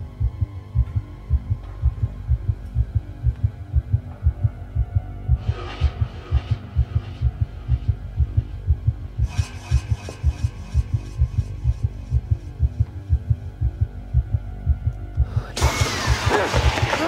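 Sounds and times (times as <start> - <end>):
heartbeat thumps: 0.0 - 17.0
low hum: 0.0 - 17.0.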